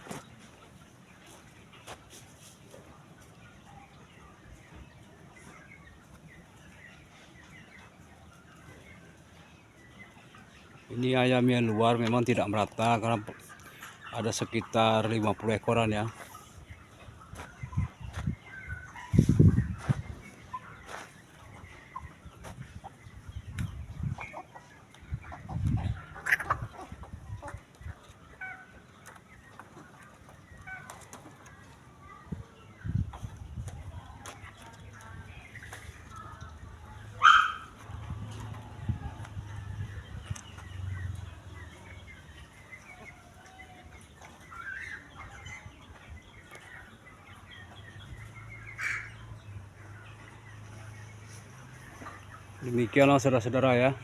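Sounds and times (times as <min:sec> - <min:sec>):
chickens clucking and peeping: 0:00.0 - 0:54.0.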